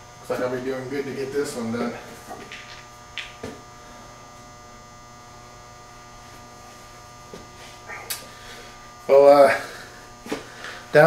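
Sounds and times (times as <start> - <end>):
electrical hum with steady tones: 0.0 - 11.0.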